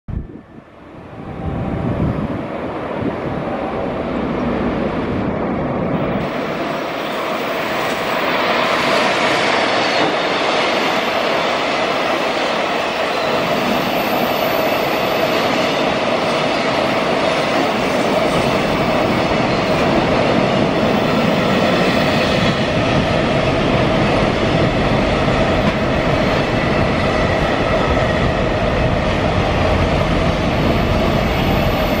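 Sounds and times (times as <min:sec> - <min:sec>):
freight train wheels rumbling: 0:00.1 - 0:32.0.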